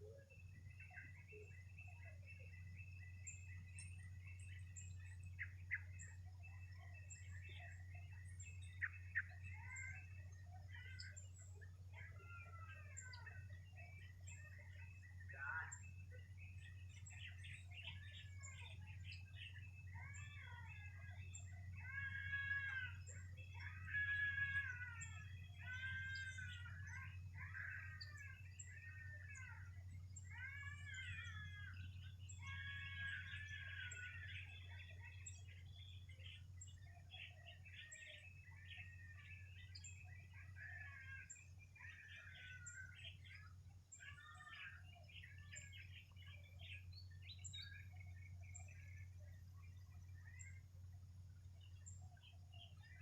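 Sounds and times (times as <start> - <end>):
birds calling and chirping: 0.0 - 53.0.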